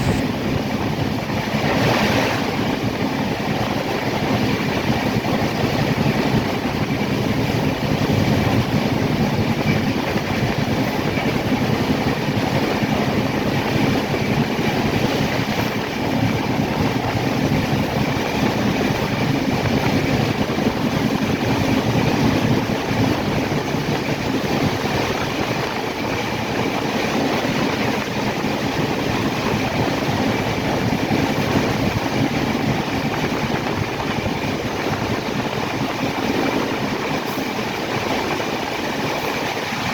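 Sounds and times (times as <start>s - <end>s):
train running on rails: 0.0s - 39.9s.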